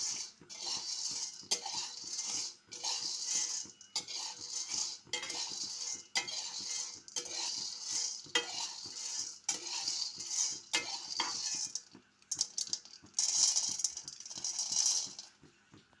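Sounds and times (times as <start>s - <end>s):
coffee beans scraped in metal pan: 0.0s - 15.3s.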